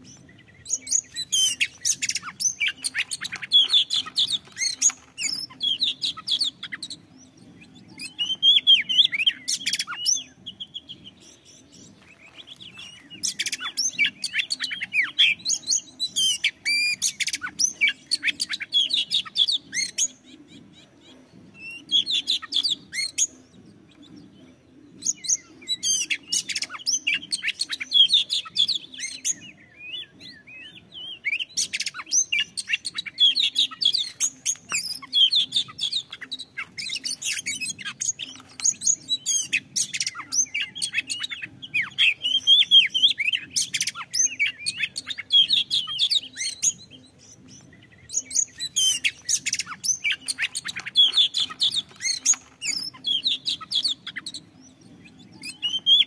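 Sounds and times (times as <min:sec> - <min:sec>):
bird singing: 0:00.0 - 0:56.0.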